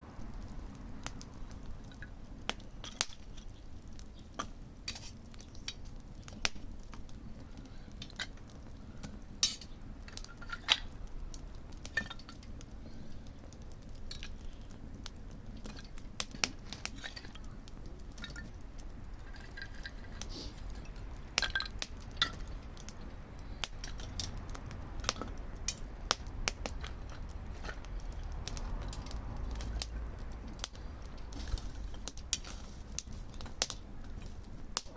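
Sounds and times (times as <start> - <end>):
low steady rumble: 0.0 - 34.9
wood fire crackling: 0.0 - 34.9.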